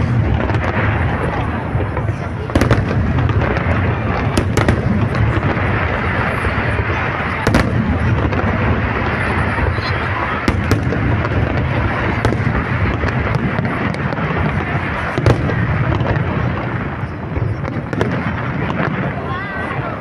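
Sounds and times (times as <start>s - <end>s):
sharp firework bangs: 0.0s - 20.0s.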